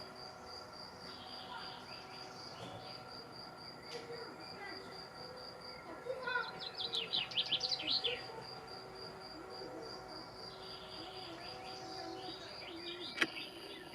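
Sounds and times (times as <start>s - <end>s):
cricket chirping trill: 0.0s - 13.9s.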